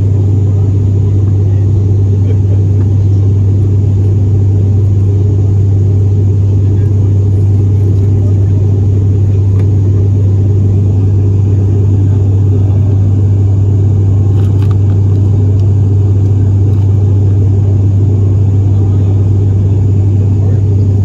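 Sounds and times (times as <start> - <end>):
propeller drone in aircraft cabin: 0.0 - 21.0.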